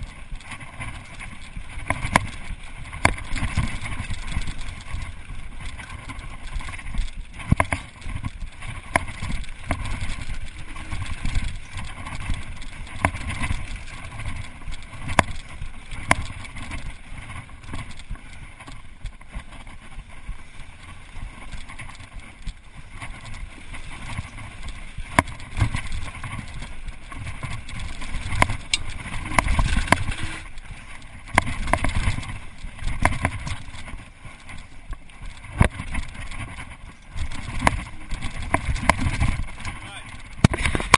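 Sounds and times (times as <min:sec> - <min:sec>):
bike clicking and rattling: 0:00.0 - 0:40.9
rush of bike tyres and air: 0:00.0 - 0:40.9.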